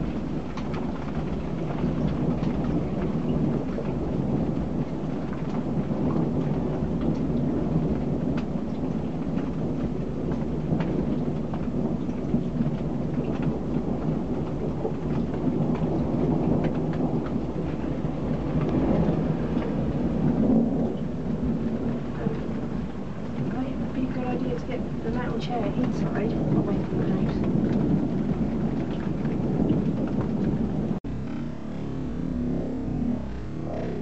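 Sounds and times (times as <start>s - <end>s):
low rumble: 0.0s - 34.0s
rain pattering: 0.0s - 34.0s.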